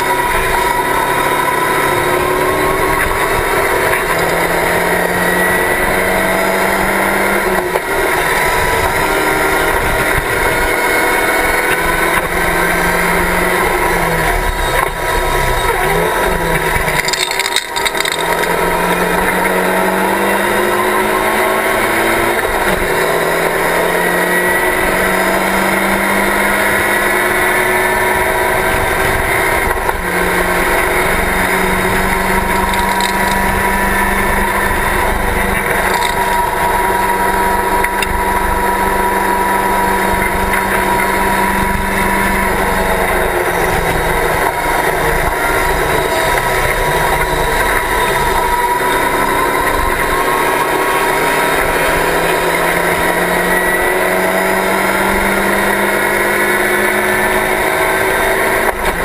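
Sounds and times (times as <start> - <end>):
race car engine with gear changes: 0.0 - 59.0.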